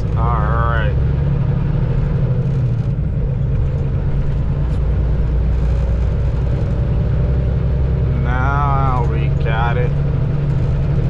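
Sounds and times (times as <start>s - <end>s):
diesel truck engine rumble: 0.0s - 11.0s.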